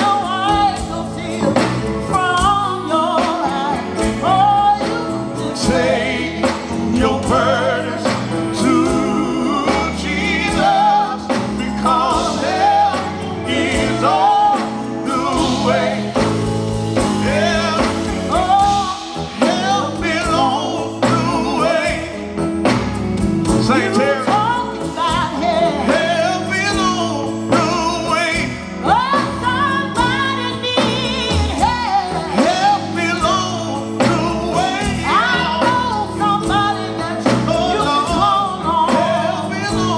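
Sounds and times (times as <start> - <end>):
band accompaniment: 0.0 - 39.9
voices singing gospel: 0.0 - 39.9.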